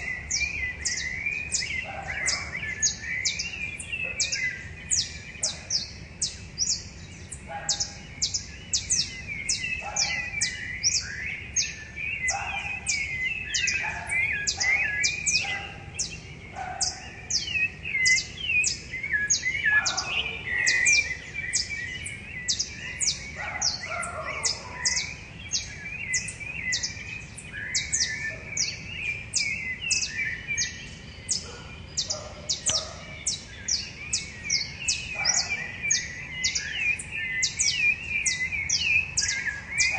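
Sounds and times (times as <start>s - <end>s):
thrushes singing: 0.0s - 39.9s.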